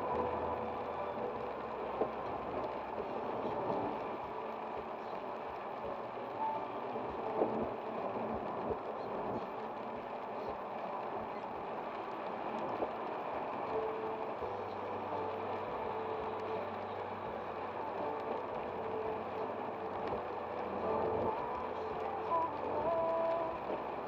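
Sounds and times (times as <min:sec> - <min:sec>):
light ticks: 0:00.0 - 0:24.0
tyres on wet road: 0:00.0 - 0:24.0.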